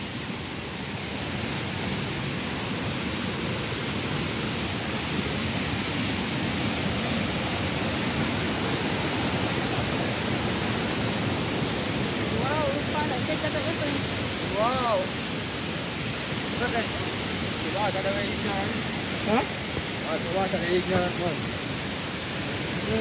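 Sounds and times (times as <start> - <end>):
water rushing over cascades: 0.0 - 23.0.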